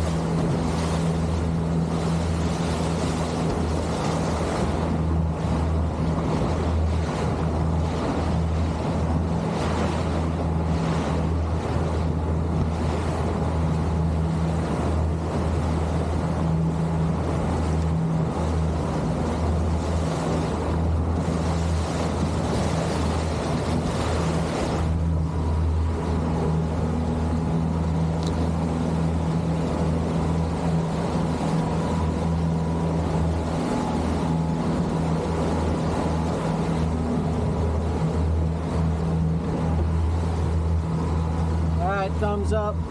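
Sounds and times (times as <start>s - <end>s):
boat motor humming: 0.0s - 42.9s
water rushing: 0.0s - 42.9s
wind: 0.0s - 42.9s.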